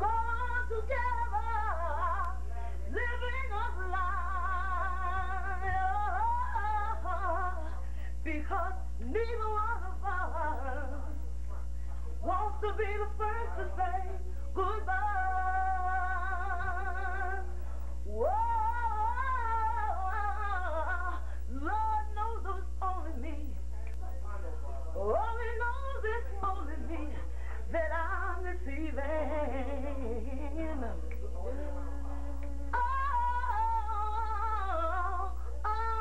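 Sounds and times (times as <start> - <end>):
woman singing unaccompanied: 0.0 - 11.3, 12.2 - 23.6, 25.0 - 36.0
steady low hum: 0.0 - 36.0.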